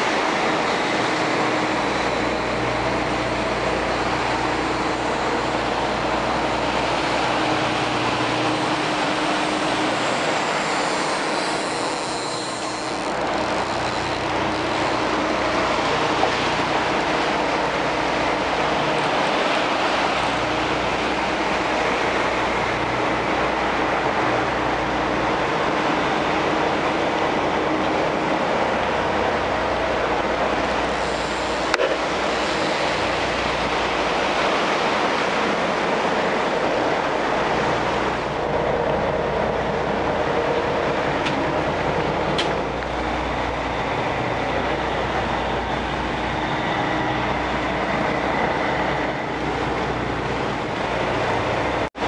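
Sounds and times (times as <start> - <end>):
boat engines droning: 0.0 - 52.0
wake water rushing: 0.0 - 52.0
wind: 0.0 - 52.0.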